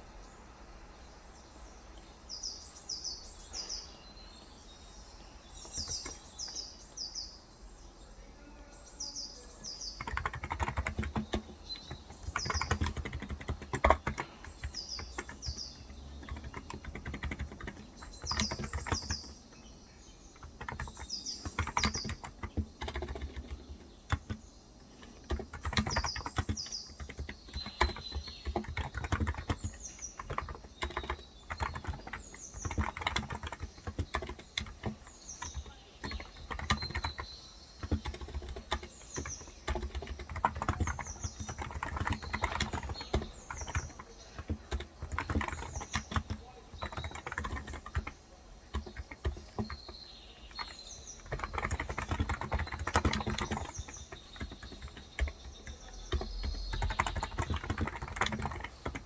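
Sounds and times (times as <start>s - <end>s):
bird chirping: 0.0s - 59.0s
muted keyboard keystrokes: 9.9s - 19.7s, 20.3s - 59.0s.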